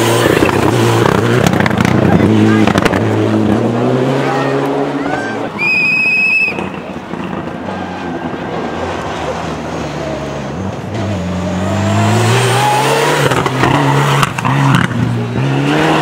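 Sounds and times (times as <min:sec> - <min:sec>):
rally car engine accelerating: 0:00.0 - 0:05.6, 0:06.5 - 0:16.0.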